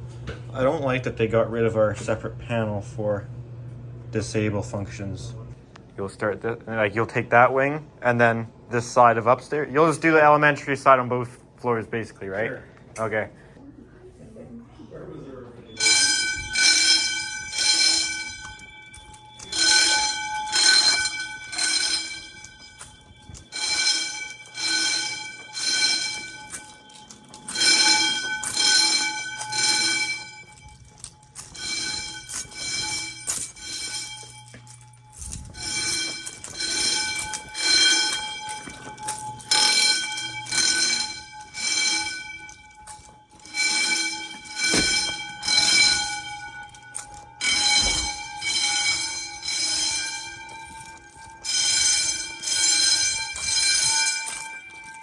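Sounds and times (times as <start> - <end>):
fire alarm bells ringing: 0.4 - 3.0, 4.1 - 13.5, 15.6 - 55.0.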